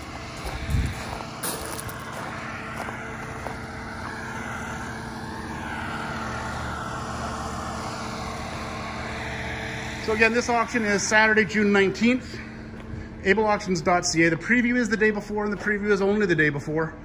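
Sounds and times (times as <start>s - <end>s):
held low tones: 0.0s - 15.6s
steady mechanical hum: 0.0s - 17.0s.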